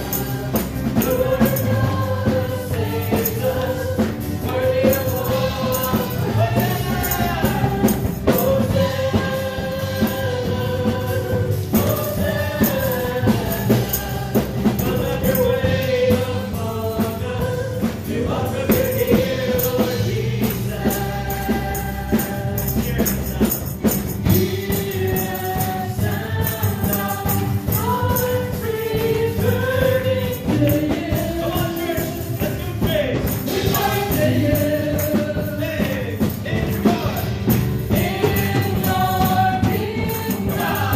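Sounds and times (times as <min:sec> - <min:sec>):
band playing: 0:00.0 - 0:40.9
group singing gospel: 0:00.0 - 0:40.9
tambourine shaken and struck: 0:00.0 - 0:40.9.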